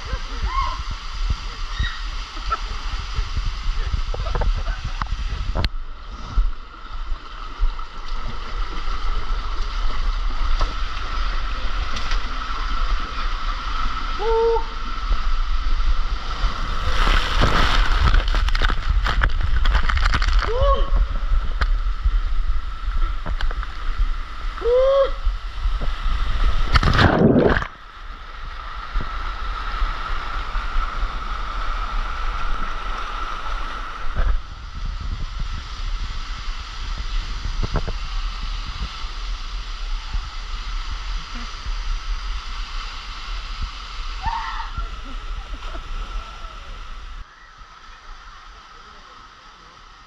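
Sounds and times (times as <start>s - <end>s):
water rushing on a water slide: 0.0s - 50.0s.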